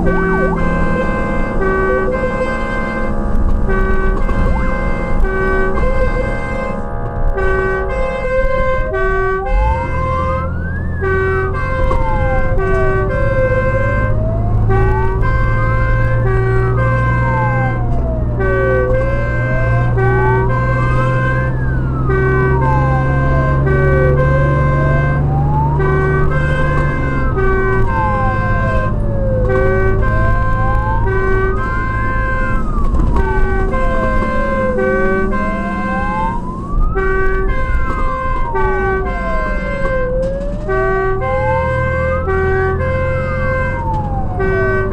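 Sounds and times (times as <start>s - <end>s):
diesel engine rumble: 0.0s - 44.9s
fire engine siren wailing: 0.0s - 44.9s.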